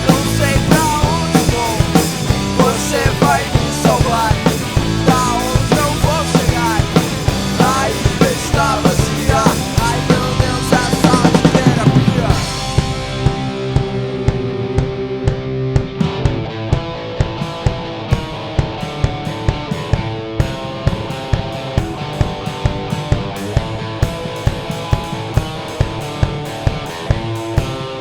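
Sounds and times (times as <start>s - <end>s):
drum kit beat: 0.0s - 28.0s
electric guitar: 0.0s - 28.0s
rock song: 0.0s - 28.0s.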